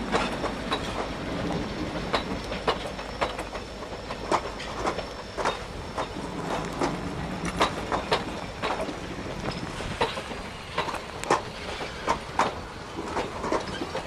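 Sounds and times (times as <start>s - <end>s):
train rumble: 0.0s - 14.0s
train wheels clacking on track: 0.0s - 14.0s.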